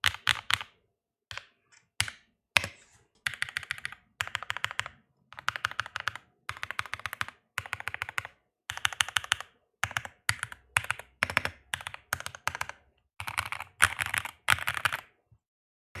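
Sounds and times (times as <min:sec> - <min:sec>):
mechanical keyboard typing: 0:00.0 - 0:15.1.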